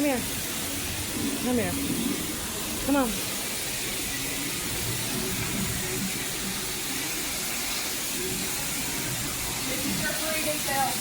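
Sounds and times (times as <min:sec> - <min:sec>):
pressure washer spraying water: 0:00.0 - 0:11.0.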